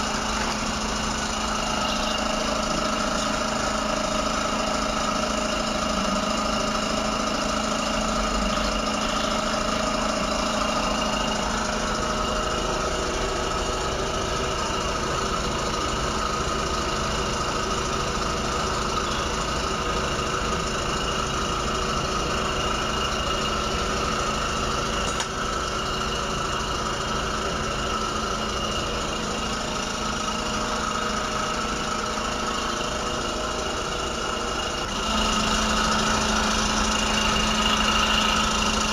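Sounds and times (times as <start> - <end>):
suction unit motor hum: 0.0 - 38.9.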